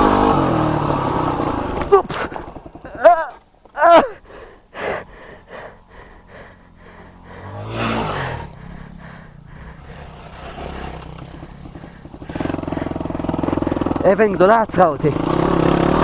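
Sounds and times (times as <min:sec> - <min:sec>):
motorcycle engine revving: 0:00.0 - 0:04.2, 0:05.4 - 0:16.0.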